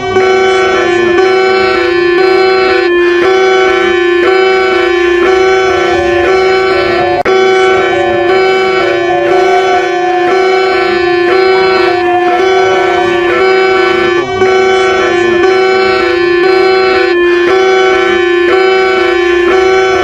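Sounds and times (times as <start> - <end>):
electronic emergency alert tone: 0.0 - 20.0.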